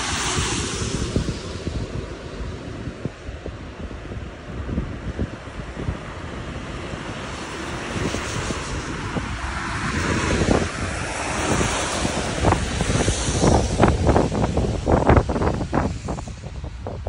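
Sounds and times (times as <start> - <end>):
street traffic hiss: 0.0 - 17.0
wind buffeting microphone: 0.0 - 17.0.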